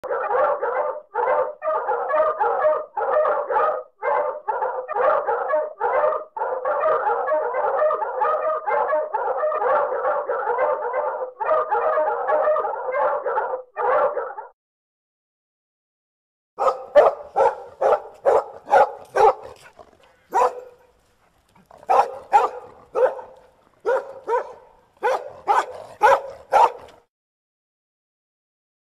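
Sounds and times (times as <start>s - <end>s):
dog barking: 0.0s - 14.6s, 16.6s - 21.0s, 21.6s - 27.1s.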